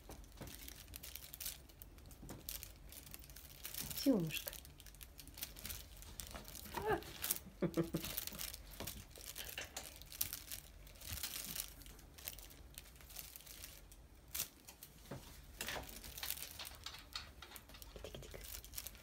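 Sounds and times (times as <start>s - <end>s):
feather toy rustling: 0.3s - 19.0s.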